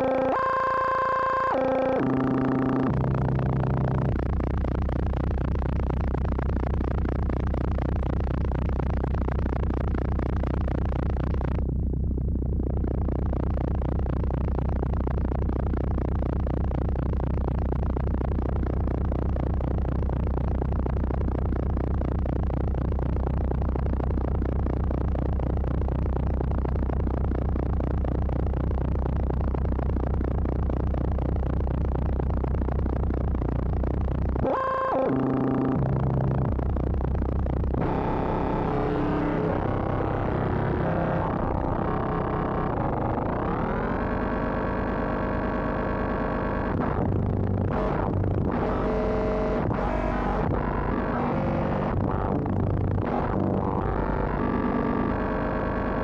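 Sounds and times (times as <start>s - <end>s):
synthesizer noisy electronic drone: 0.0s - 56.0s
synthesizer stepped tones: 0.0s - 56.0s.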